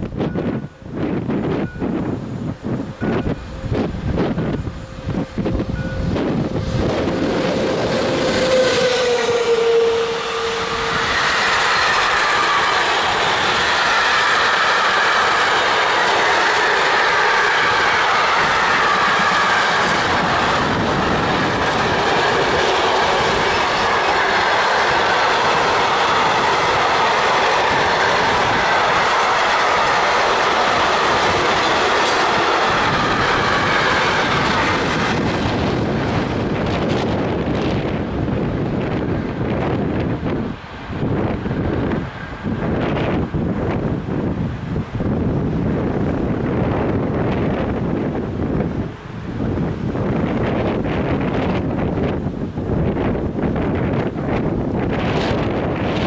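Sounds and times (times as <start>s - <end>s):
electric locomotive whine: 0.0s - 56.0s
train wheels on rails: 0.0s - 56.0s.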